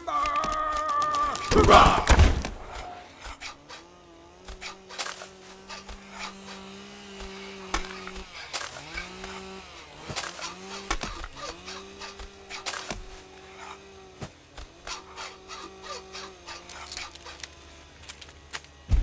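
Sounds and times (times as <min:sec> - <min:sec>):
sawing and rubbing wood: 0:00.0 - 0:19.0.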